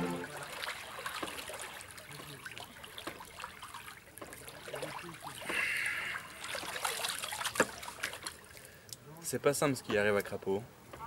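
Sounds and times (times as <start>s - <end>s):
pool water splashing and lapping: 0.0s - 9.0s.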